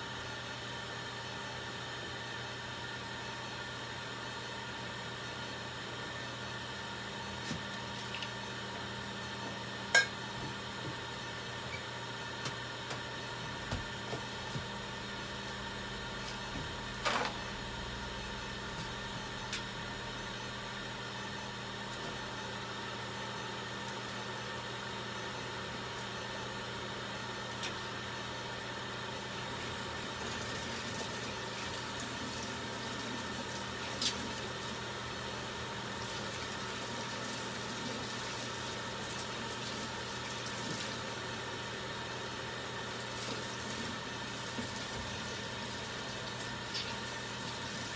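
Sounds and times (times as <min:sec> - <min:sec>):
electrical machine hum: 0:00.0 - 0:47.9.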